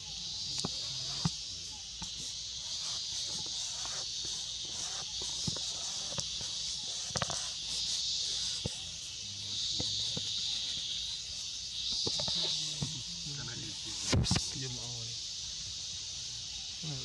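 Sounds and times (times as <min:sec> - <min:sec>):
insect chorus buzzing: 0:00.0 - 0:17.0.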